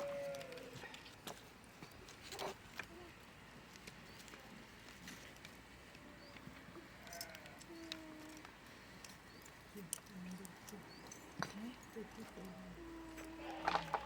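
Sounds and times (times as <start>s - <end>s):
hooves clicking and knocking: 0.0s - 14.0s.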